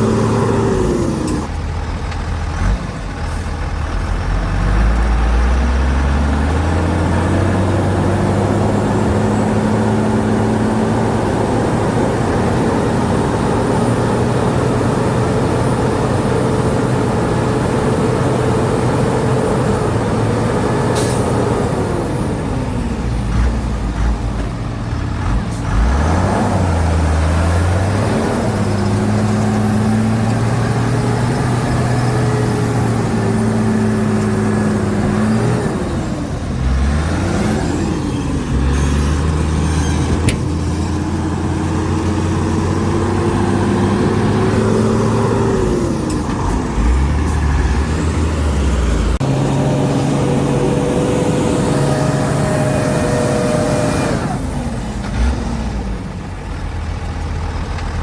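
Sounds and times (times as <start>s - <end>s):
heavy diesel engine revving: 0.0s - 58.0s.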